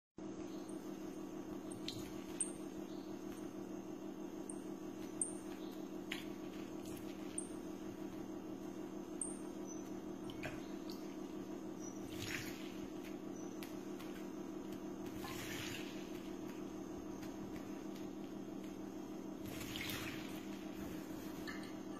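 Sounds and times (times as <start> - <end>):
steady low hum: 0.2 - 21.9.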